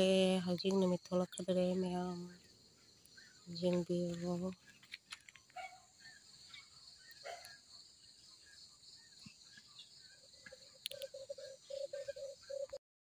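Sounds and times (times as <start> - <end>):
faint bird chirps: 0.0 - 12.8
insects chirring: 0.0 - 12.8.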